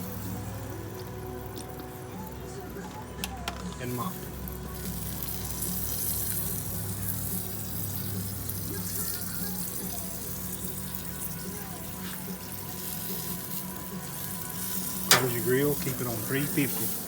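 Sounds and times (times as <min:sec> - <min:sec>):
butter sizzling on a grill: 0:00.0 - 0:17.0.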